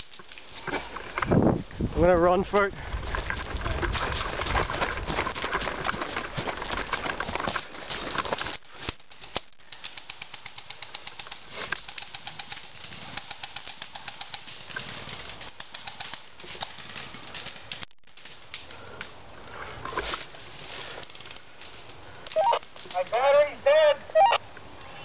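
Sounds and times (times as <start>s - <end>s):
rustling: 0.0s - 23.4s.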